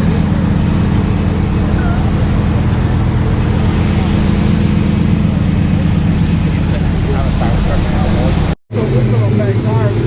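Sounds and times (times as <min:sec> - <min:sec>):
car engine idling: 0:00.0 - 0:10.0
faint voices: 0:00.0 - 0:10.0.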